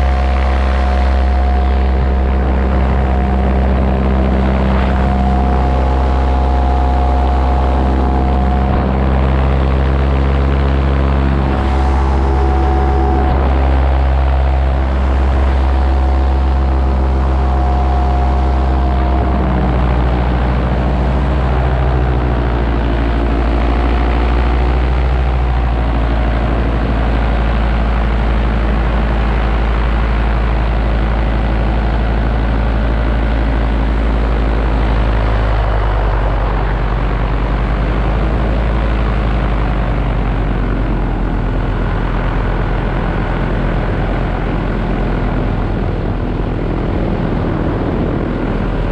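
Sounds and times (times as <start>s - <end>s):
paramotor engine and propeller: 0.0s - 48.9s.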